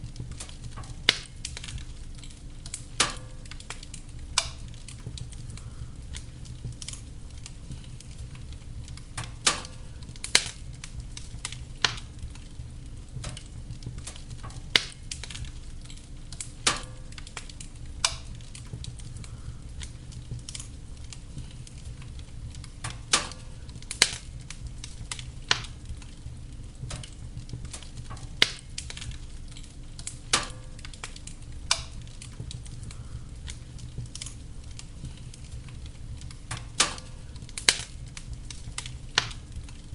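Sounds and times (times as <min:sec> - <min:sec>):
flames rumbling: 0:00.0 - 0:39.9
logs popping and crackling: 0:00.0 - 0:39.9.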